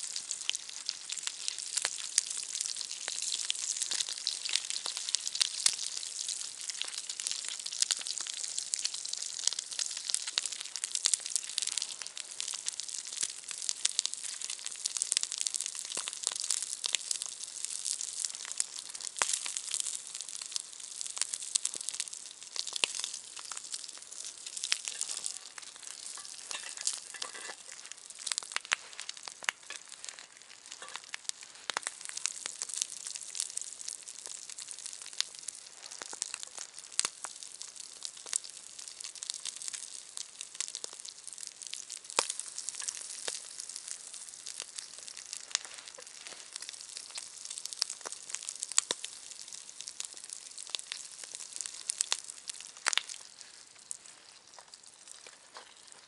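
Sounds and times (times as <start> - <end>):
campfire crackling and sizzling: 0.0 - 56.0.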